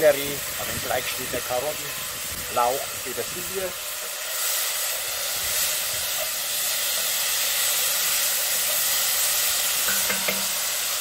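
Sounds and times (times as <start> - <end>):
vegetables sizzling in butter: 0.0 - 11.0.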